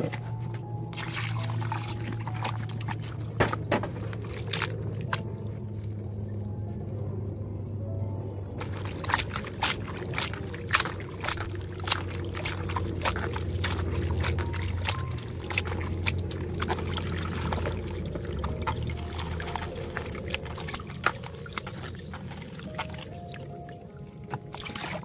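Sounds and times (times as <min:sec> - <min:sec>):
wet sloshing and squelching: 0:00.0 - 0:06.3, 0:08.4 - 0:25.0.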